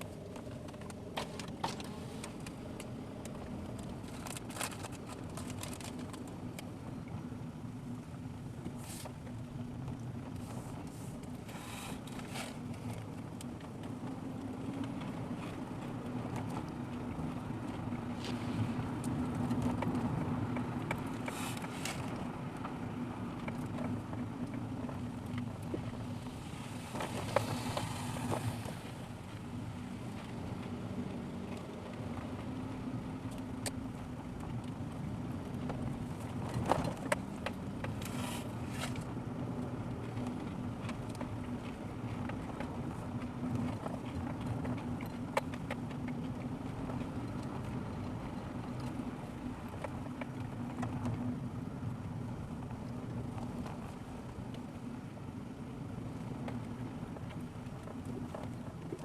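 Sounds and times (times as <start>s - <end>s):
car engine and tyre drone: 0.0s - 59.0s
clicks and knocks from road: 0.0s - 59.0s.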